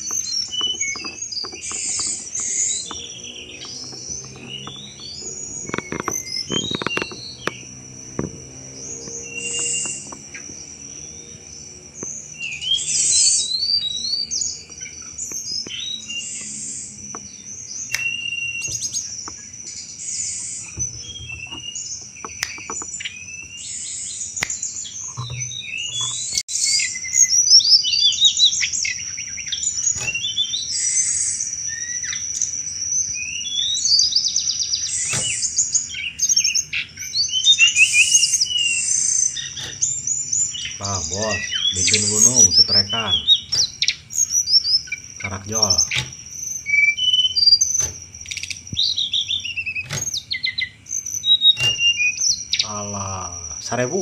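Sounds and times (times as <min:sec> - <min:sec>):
bird singing rapid chattering: 0:00.0 - 0:54.0.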